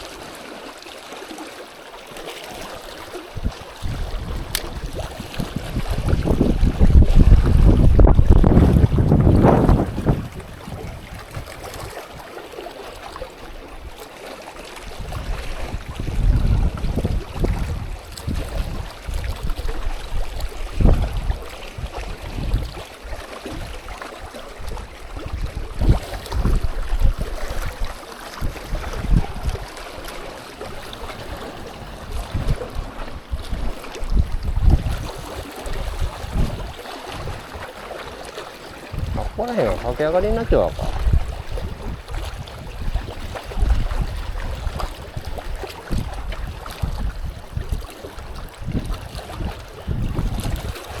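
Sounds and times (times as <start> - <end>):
gusty wind buffeting microphone: 3.4 - 12.3, 14.8 - 22.8, 24.6 - 37.7, 38.9 - 51.0.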